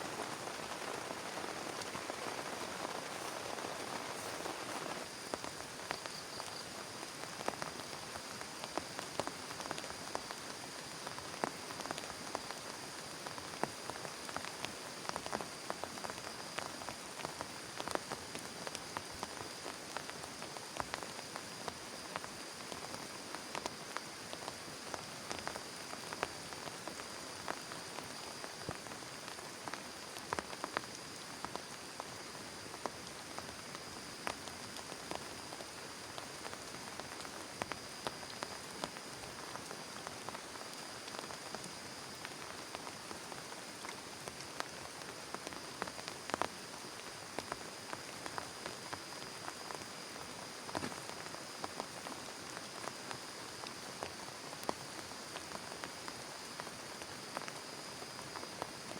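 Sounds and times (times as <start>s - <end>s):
rain drops tapping: 0.0s - 58.9s.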